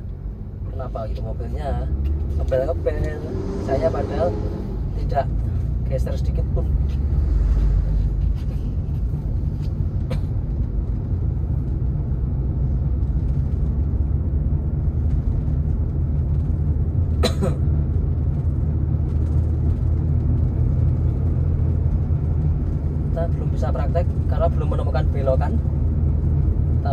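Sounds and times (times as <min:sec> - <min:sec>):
car cabin engine and road rumble: 0:00.0 - 0:26.9.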